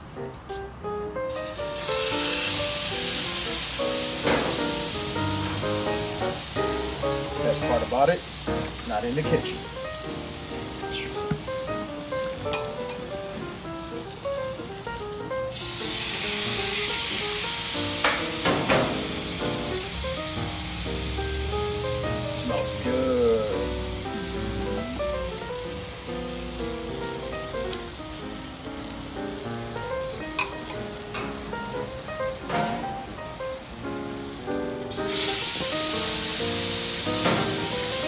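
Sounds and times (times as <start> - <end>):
toast sizzling in a pan: 1.3 - 38.0.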